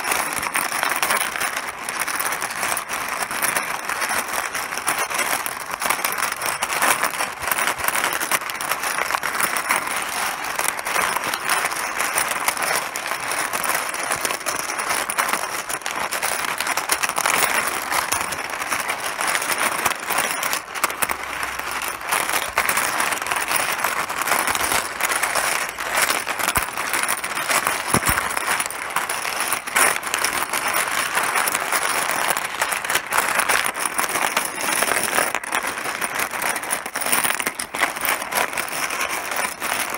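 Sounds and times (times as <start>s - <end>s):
mahjong tiles clattering: 0.0s - 39.9s.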